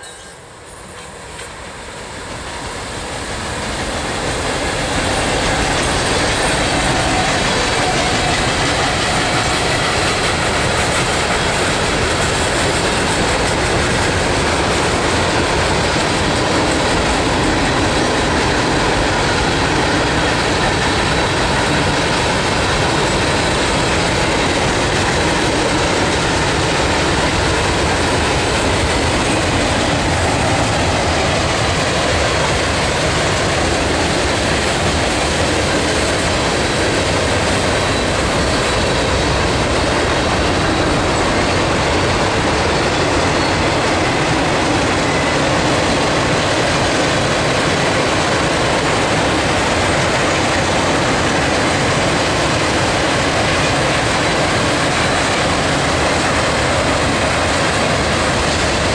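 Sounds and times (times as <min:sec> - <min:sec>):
freight train wheels rumbling on rails: 0:00.0 - 0:58.9.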